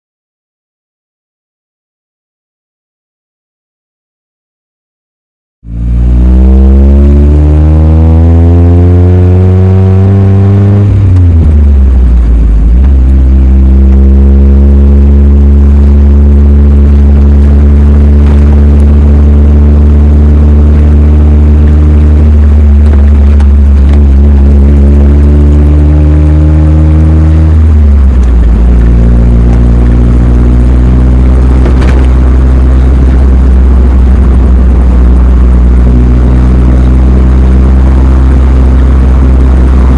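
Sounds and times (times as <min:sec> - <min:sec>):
car engine running under load: 0:05.7 - 0:39.9.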